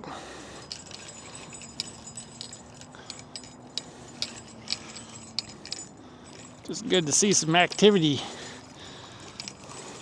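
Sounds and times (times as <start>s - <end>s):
fishing reel clicks and jingles: 0.6s - 10.0s.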